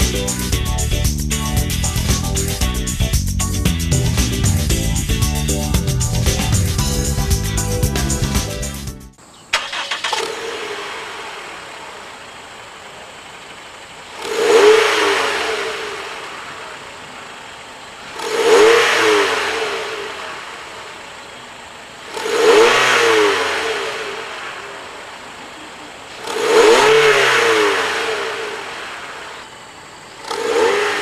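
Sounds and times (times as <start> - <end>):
car engine starting and revving: 0.0 - 31.0.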